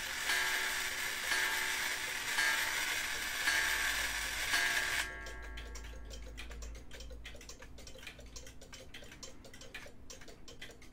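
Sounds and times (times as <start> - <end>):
clock mechanism whirring: 0.0 - 10.9
wall clock ticking: 0.0 - 10.9.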